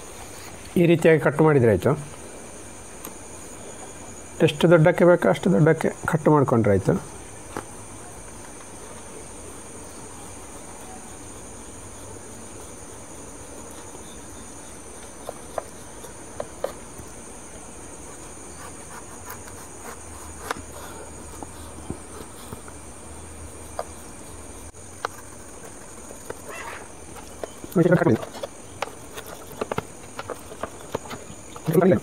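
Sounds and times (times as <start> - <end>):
high-pitched background buzz: 0.0 - 30.1.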